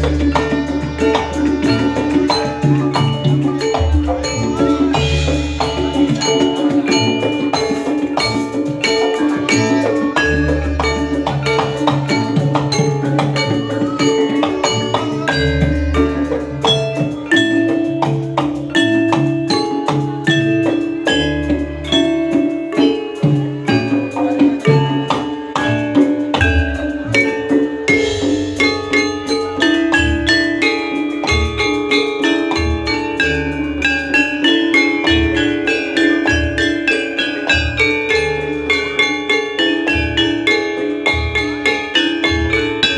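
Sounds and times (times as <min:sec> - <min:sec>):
drum strokes: 0:00.0 - 0:42.9
mallet-struck keyed instruments: 0:00.0 - 0:42.9.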